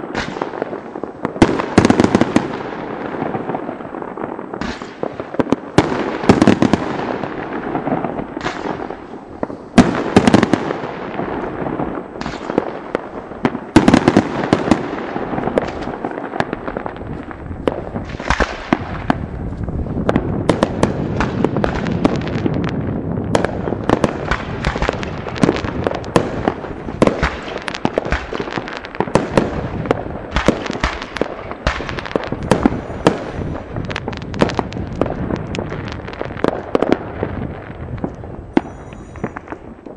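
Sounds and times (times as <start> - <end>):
fireworks crackle: 0.0 - 39.9
fireworks exploding: 0.0 - 39.9.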